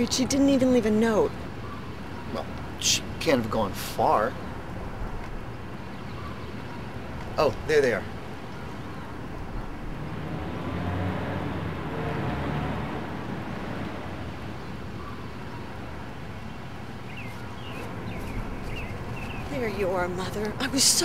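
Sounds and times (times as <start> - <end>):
distant traffic noise: 0.0 - 21.0.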